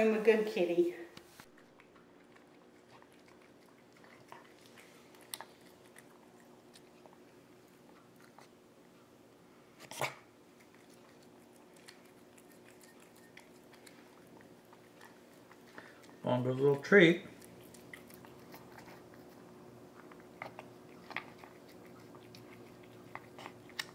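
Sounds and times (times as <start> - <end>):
cat crunching food: 1.5 - 9.1, 9.7 - 23.9.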